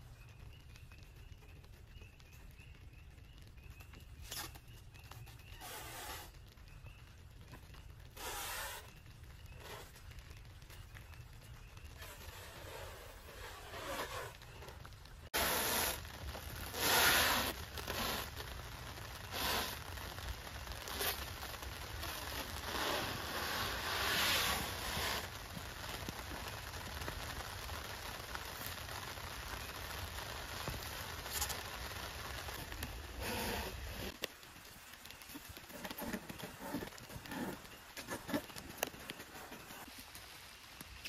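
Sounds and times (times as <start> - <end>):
plastic stretch wrap crackling: 0.0 - 41.0.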